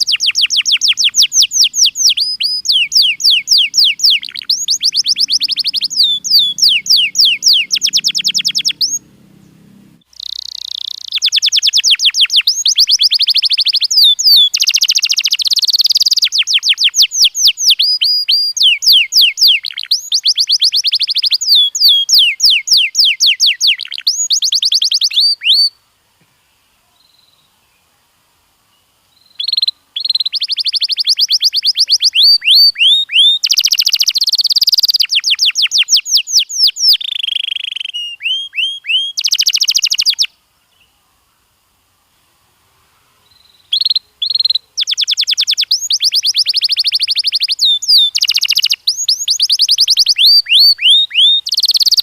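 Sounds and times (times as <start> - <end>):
canary singing trills: 0.0 - 25.8, 29.1 - 41.0, 43.2 - 52.0.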